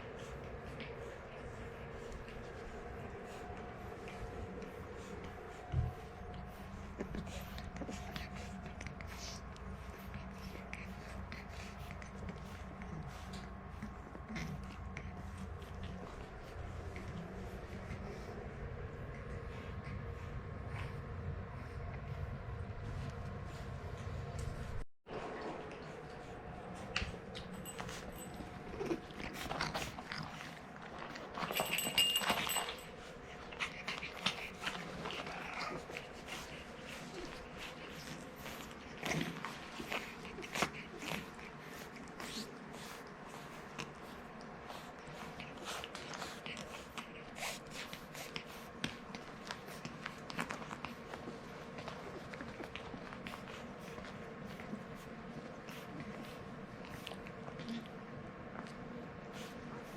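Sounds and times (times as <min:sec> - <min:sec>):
puppy snorting and snuffling: 0:00.0 - 0:22.2, 0:25.4 - 0:59.9.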